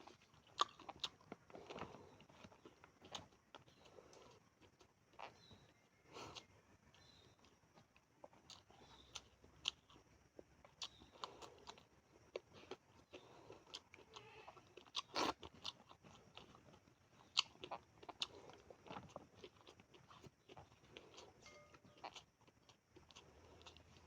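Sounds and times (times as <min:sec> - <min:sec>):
person chewing and crunching: 0:00.0 - 0:24.0.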